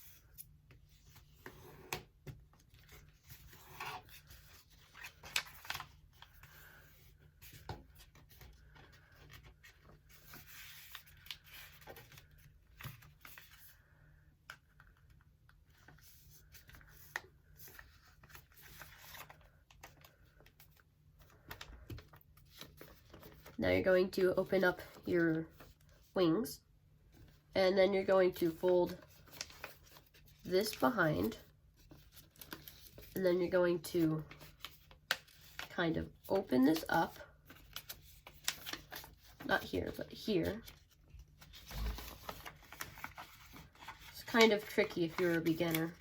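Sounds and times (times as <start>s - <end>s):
paper rustling and creasing: 0.0s - 26.3s, 28.0s - 46.0s.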